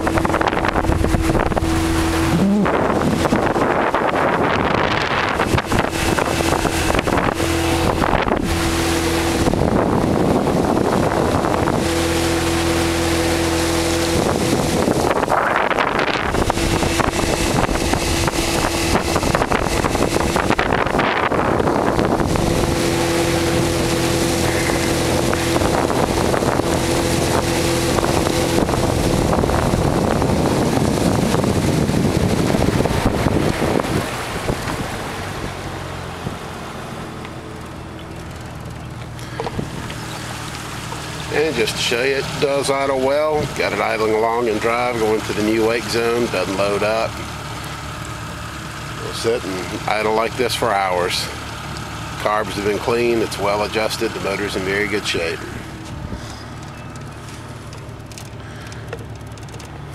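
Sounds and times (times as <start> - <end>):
wind buffeting microphone: 0.0 - 50.0, 52.8 - 59.9
outboard motor running: 0.0 - 59.9
water rushing past: 0.0 - 59.9.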